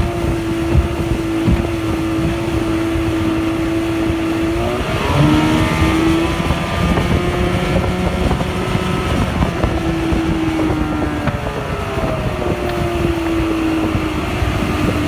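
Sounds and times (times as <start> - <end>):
outboard motor running: 0.0 - 15.0
rushing water: 0.0 - 15.0
wind on microphone: 0.0 - 15.0.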